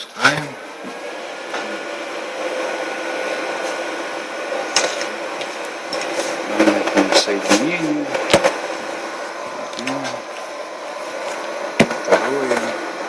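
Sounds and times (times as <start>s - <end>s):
cooling fan whirring: 0.0s - 13.0s
faint hum: 0.0s - 13.0s.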